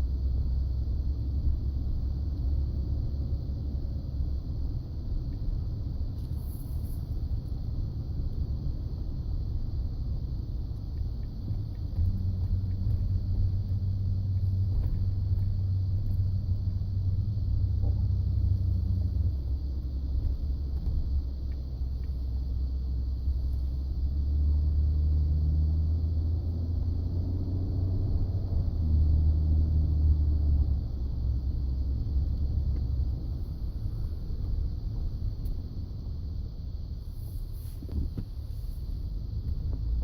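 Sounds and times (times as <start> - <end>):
pickup truck engine rumble: 0.0 - 40.0.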